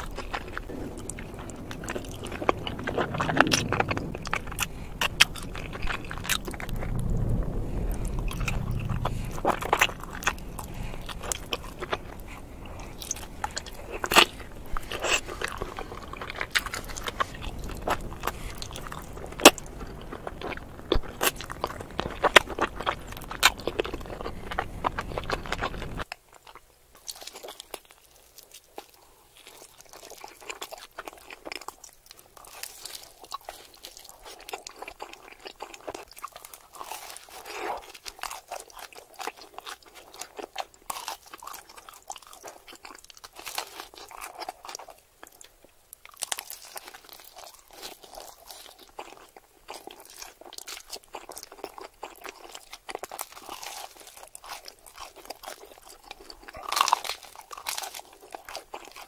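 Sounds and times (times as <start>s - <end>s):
chewing crunchy pizza: 0.0s - 59.0s.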